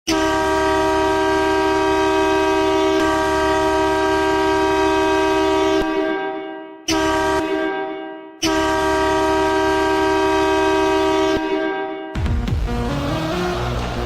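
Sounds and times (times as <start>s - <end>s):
hockey goal horn blast: 0.1s - 12.2s.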